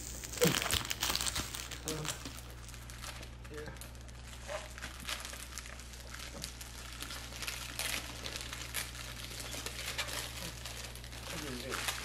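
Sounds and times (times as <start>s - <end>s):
low electrical hum: 0.0s - 12.0s
plastic film crinkling: 0.0s - 12.0s.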